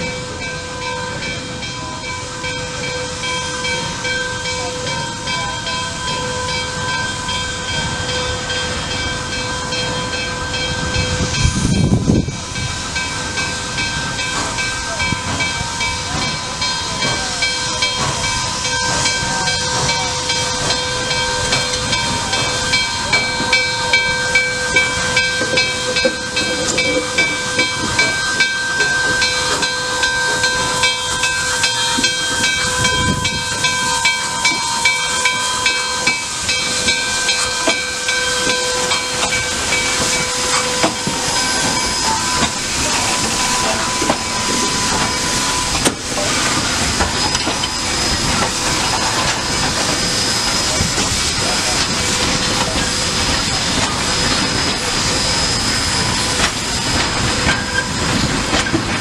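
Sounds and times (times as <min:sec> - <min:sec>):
bell ringing: 0:00.0 - 0:50.8
steam hissing: 0:00.0 - 0:59.0.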